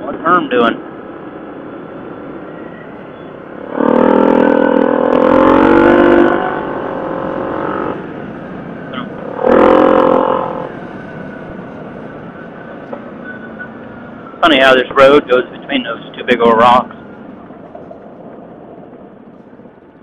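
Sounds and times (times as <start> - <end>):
atv engine droning: 2.4 - 19.9.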